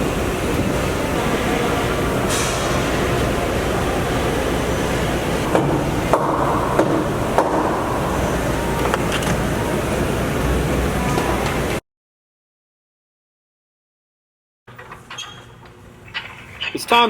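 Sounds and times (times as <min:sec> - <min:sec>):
workshop background noise: 0:00.0 - 0:11.8, 0:14.7 - 0:17.0.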